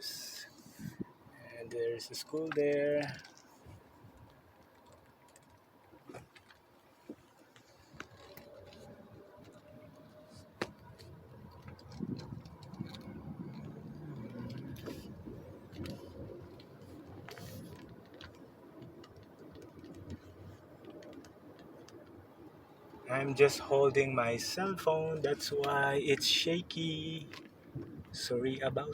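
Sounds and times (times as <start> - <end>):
car road and engine noise: 0.0 - 28.9.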